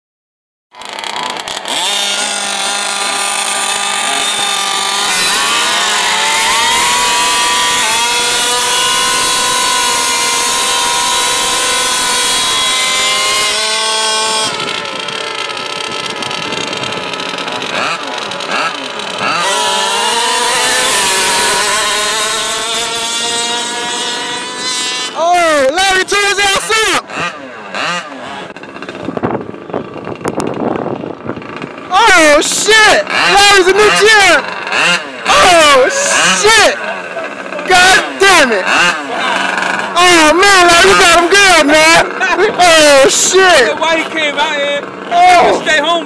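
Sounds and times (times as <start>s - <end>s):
small engines buzzing at high revs: 0.7s - 46.0s.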